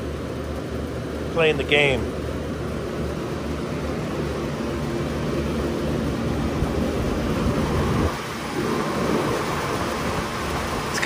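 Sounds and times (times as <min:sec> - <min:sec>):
compressor humming: 0:00.0 - 0:11.0
condenser fan noise: 0:00.0 - 0:11.0.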